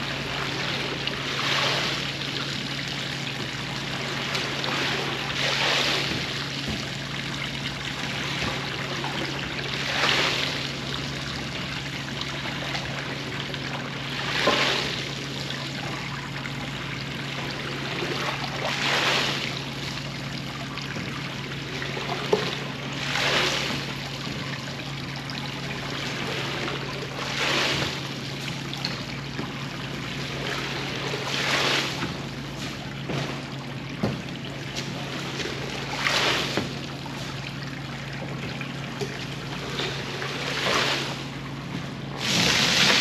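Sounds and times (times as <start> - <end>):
water washing over rug: 0.0 - 16.2, 17.4 - 43.0
low machine hum: 0.0 - 43.0.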